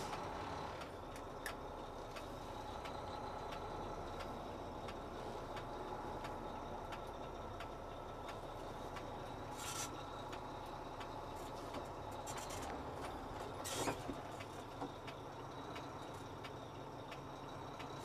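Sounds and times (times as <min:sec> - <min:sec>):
diesel truck engine running: 0:00.0 - 0:18.0
steady ticking: 0:00.1 - 0:13.4, 0:14.3 - 0:18.0.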